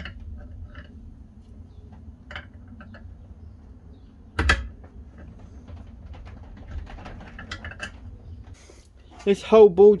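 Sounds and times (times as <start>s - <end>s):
low steady rumble: 0.0s - 8.6s.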